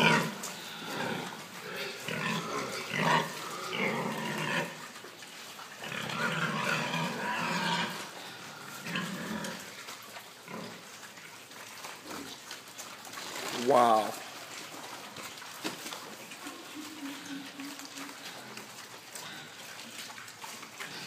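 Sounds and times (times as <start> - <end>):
pigs grunting and calling: 0.0 - 21.0.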